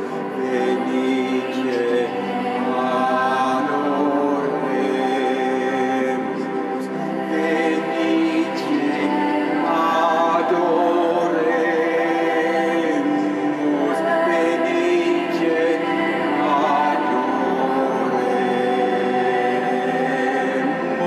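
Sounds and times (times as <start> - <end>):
man singing slow song: 0.0 - 21.0.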